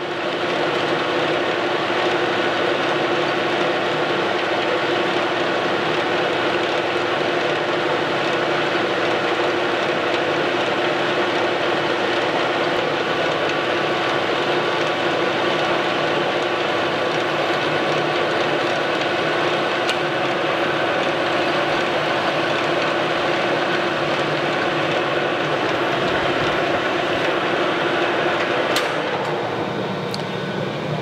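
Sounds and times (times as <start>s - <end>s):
metal lathe humming: 0.2s - 31.0s.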